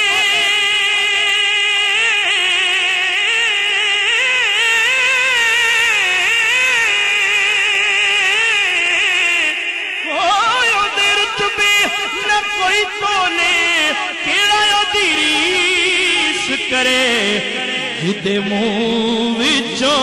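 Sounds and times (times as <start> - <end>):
man singing a wavering note: 0.0 - 20.0.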